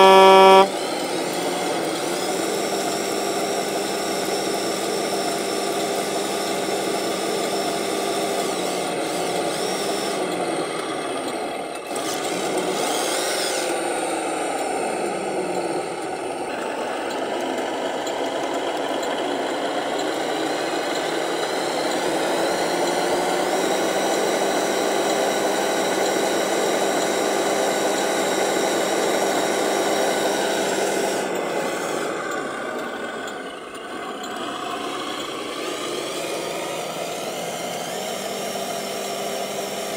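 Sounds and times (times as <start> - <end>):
model truck motor whine: 0.0 - 39.9.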